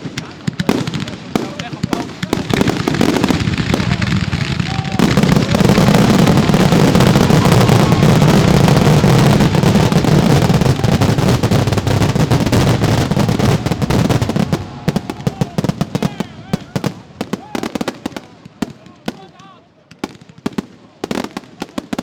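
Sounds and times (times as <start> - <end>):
fireworks bangs and crackle: 0.0 - 22.0.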